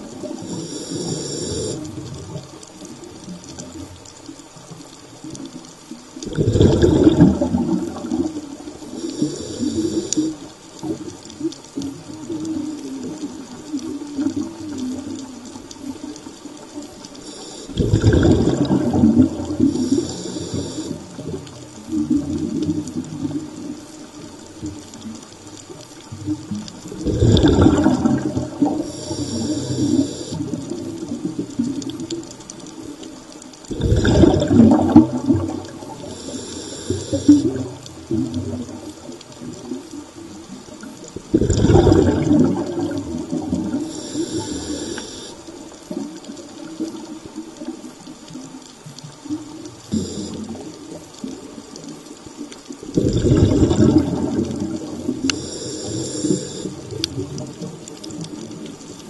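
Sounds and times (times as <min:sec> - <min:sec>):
regulator hiss on inhale: 0:00.0 - 0:38.2, 0:38.8 - 0:59.0
exhaled bubbles rushing: 0:06.2 - 0:59.0.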